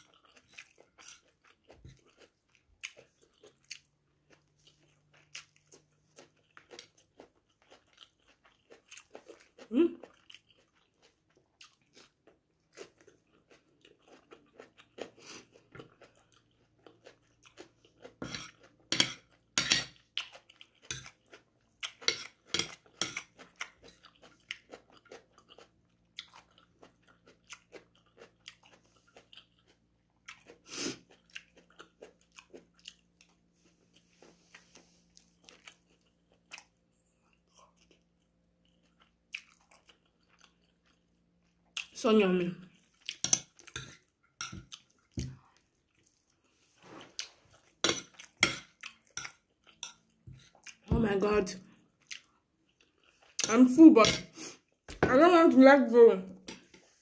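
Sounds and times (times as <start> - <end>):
person chewing and crunching: 0.0 - 42.0, 42.6 - 50.9, 51.5 - 55.0.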